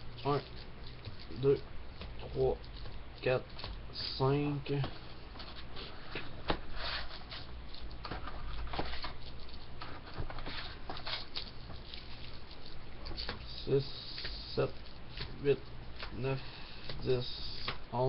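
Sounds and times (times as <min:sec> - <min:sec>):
card packs rustling and crinkling: 0:00.2 - 0:17.8.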